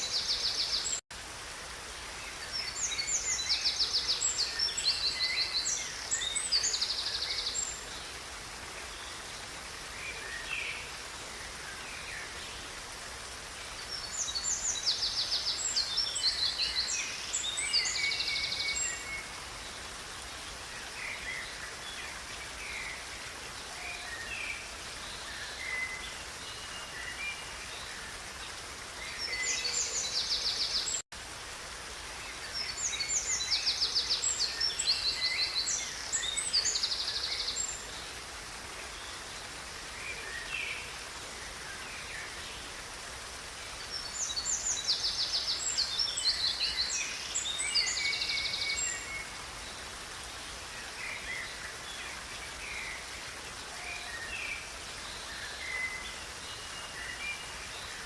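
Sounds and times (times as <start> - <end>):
river rushing: 0.0 - 58.0
songbirds chirping: 0.0 - 58.0.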